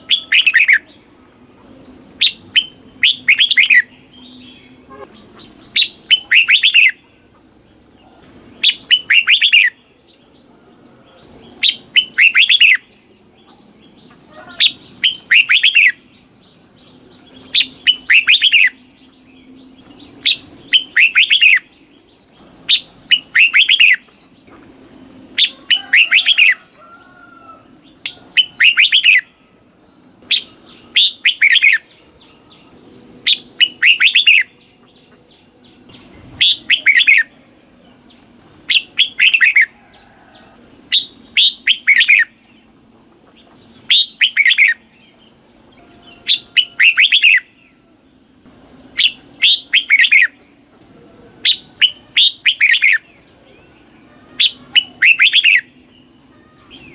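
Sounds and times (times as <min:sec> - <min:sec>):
bird singing whistled notes: 0:00.0 - 0:07.2, 0:08.2 - 0:13.9, 0:14.6 - 0:24.4, 0:25.2 - 0:34.7, 0:35.4 - 0:37.5, 0:38.1 - 0:39.8, 0:40.8 - 0:42.5, 0:43.8 - 0:47.8, 0:48.9 - 0:50.5, 0:51.4 - 0:56.9.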